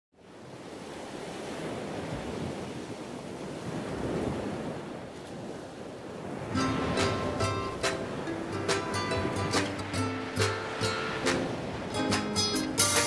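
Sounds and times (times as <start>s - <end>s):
ocean surf breaking: 0.2s - 13.0s.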